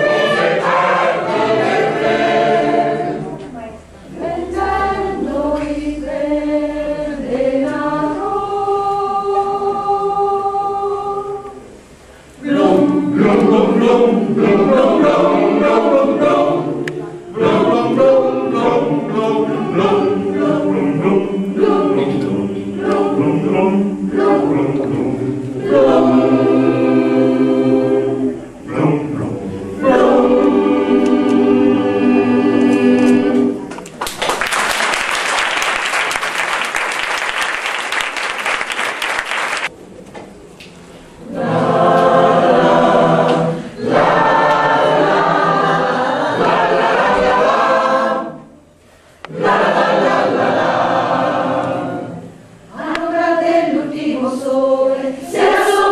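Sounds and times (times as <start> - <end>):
mixed choir singing a cappella: 0.0 - 33.8, 41.2 - 55.9.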